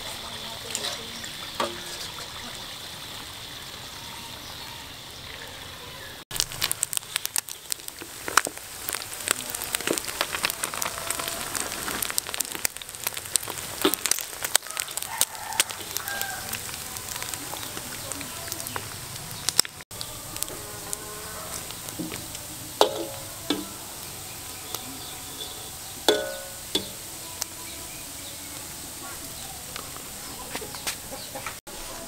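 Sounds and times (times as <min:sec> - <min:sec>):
hot oil crackling and popping: 0:00.0 - 0:03.9, 0:06.2 - 0:31.8
oil sizzling hiss: 0:00.0 - 0:32.0.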